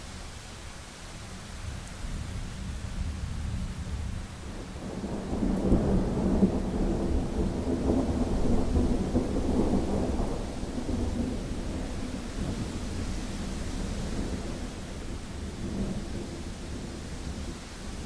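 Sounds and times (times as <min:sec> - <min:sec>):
steady rain: 0:00.0 - 0:18.0
thunder rumbling: 0:02.8 - 0:18.0.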